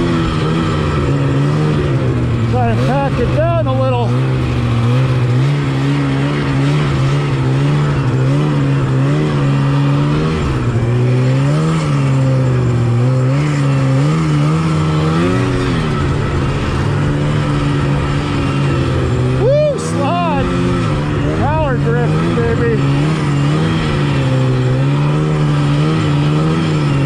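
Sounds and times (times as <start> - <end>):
snowmobile engine running: 0.0 - 27.0.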